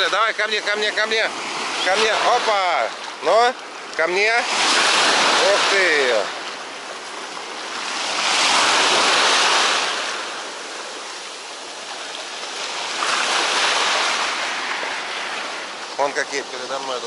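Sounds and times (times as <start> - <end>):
sea waves breaking and washing: 0.0 - 17.0.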